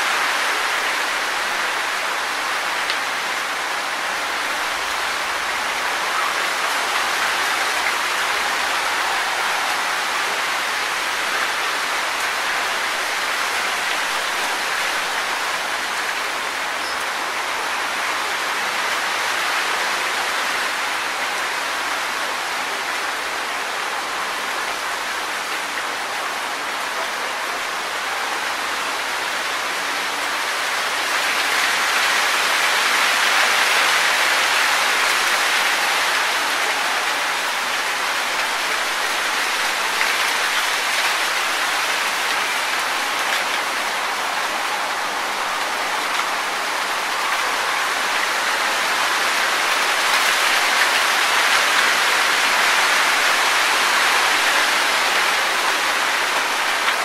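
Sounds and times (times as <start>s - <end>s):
wind rustling tree leaves: 0.0s - 57.0s.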